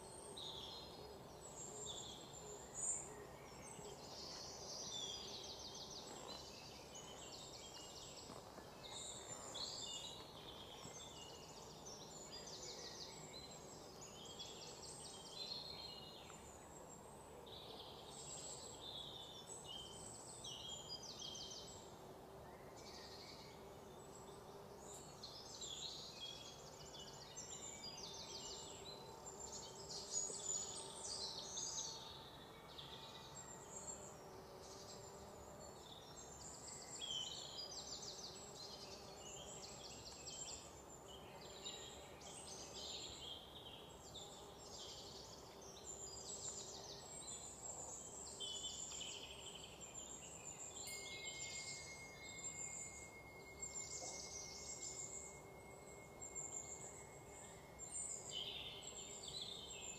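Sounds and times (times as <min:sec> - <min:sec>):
birds and insects chirping: 0:00.0 - 0:59.9.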